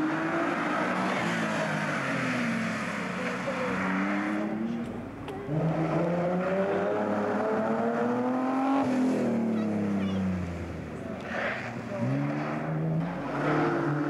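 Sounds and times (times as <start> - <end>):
rally car accelerating: 0.0 - 14.0
rally car engine passing: 0.0 - 14.0.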